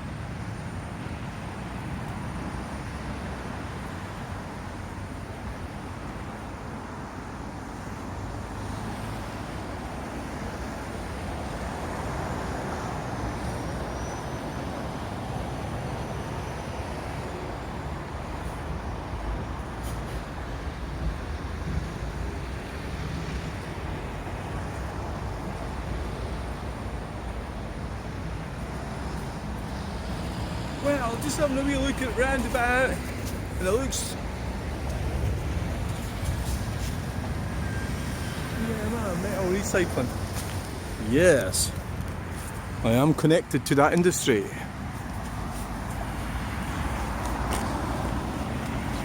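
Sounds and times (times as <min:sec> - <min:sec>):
cars and lorries passing: 0:00.0 - 0:49.0.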